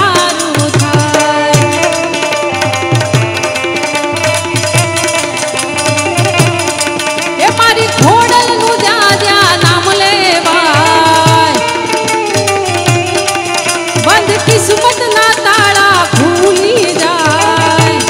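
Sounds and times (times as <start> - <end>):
woman singing: 0.0 - 3.8, 6.7 - 18.0
hand drum beat: 0.0 - 18.0
harmonium chords: 0.0 - 18.0.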